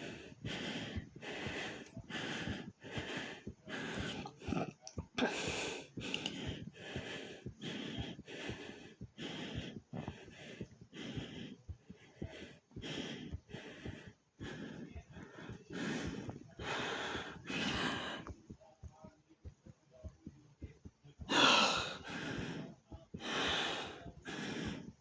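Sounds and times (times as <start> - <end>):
hard fast breathing: 0.0 - 25.0
low heartbeat thumps: 0.0 - 25.0.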